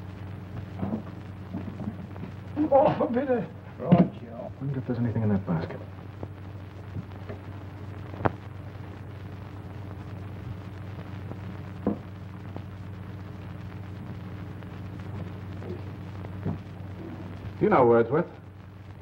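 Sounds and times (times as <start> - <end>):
film soundtrack hum and hiss: 0.0 - 19.0.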